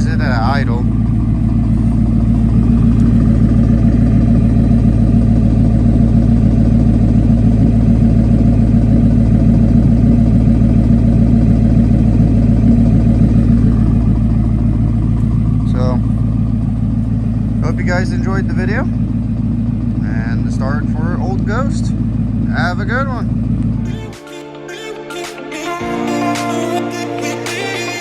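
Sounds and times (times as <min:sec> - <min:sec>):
engine idling through exhaust: 0:00.0 - 0:23.8.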